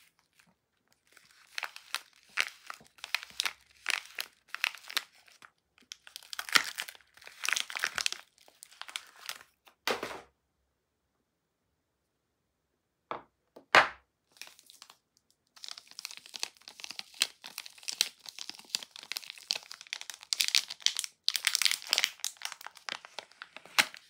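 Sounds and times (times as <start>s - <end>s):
plastic wrapper crinkling: 0.0s - 9.6s, 14.3s - 24.0s.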